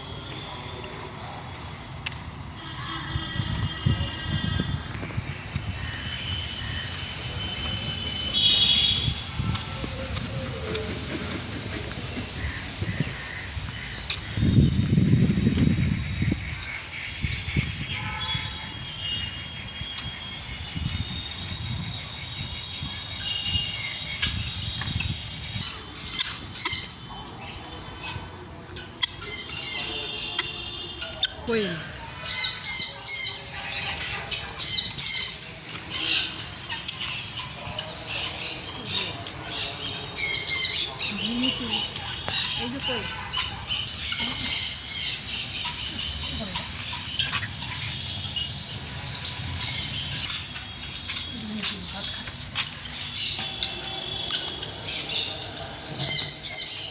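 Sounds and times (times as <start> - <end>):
birds chirping and squawking: 0.0 - 56.9.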